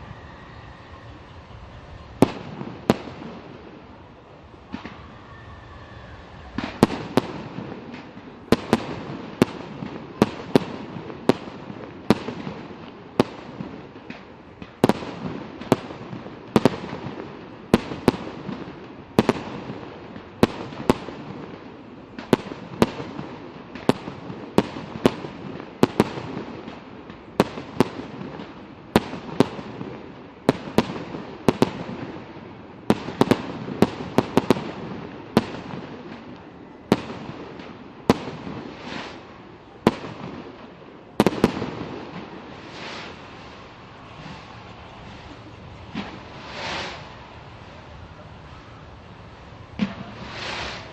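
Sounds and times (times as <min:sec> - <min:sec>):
fireworks bangs: 0:00.0 - 0:50.9
fireworks crackling and rumbling: 0:00.0 - 0:50.9.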